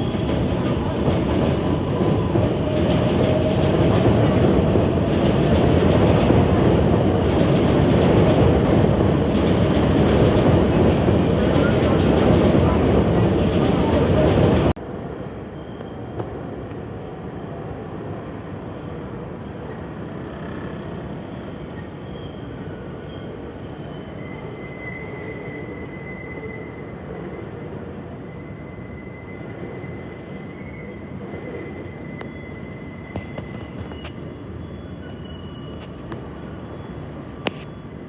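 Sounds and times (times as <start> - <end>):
high wheel squeal: 0.0 - 38.0
subway train rumbling on rails: 0.0 - 38.0.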